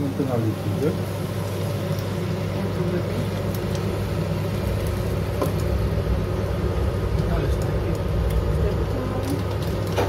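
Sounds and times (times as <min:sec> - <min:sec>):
induction hob humming: 0:00.0 - 0:10.0.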